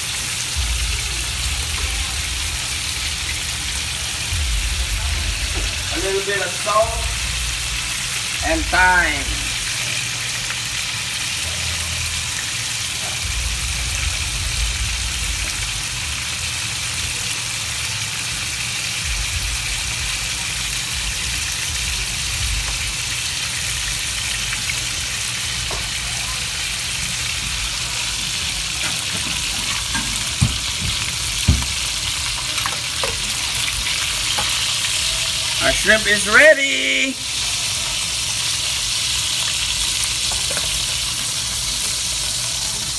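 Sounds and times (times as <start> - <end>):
scallops sizzling in a pan: 0.0 - 42.9.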